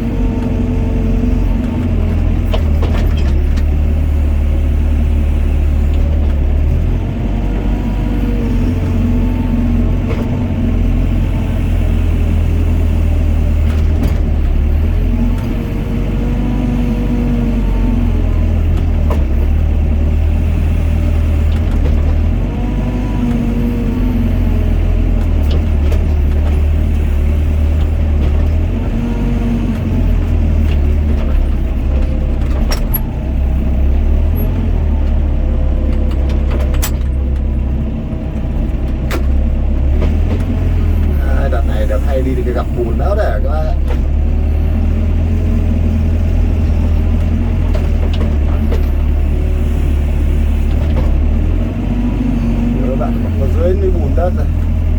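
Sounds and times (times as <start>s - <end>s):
excavator diesel engine whine: 0.0s - 54.9s.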